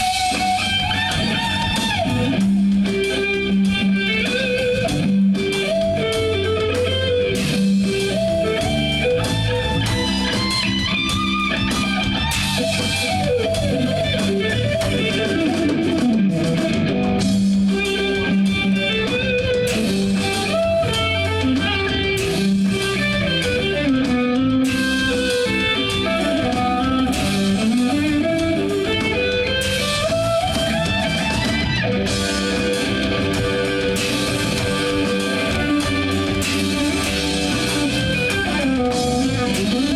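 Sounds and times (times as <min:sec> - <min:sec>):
electric guitar pitch sweeps: 0:00.0 - 0:39.9
live band instrumental: 0:00.0 - 0:39.9.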